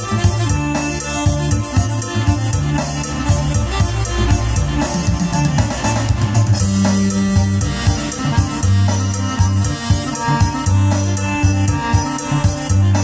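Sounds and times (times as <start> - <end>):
keyboard melody with accompaniment: 0.0 - 13.0.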